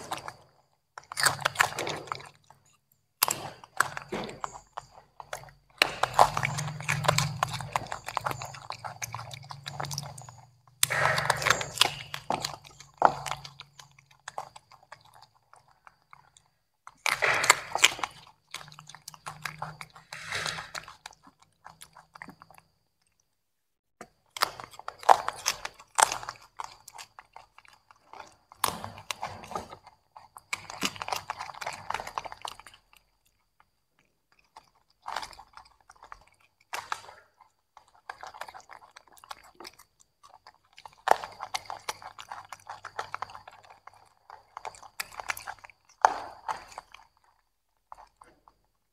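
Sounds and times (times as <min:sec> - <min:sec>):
monkeys crunching vegetables: 0:00.0 - 0:23.4, 0:24.0 - 0:48.9.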